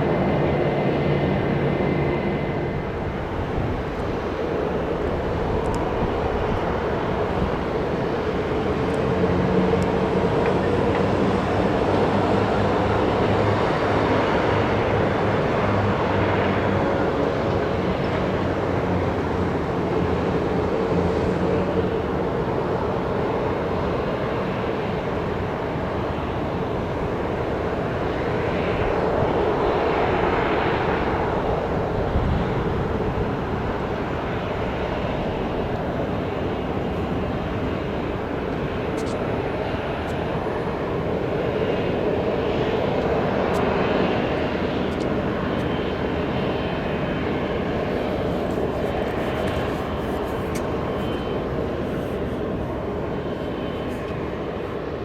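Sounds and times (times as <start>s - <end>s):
jet airliner engines roaring: 0.0s - 55.0s.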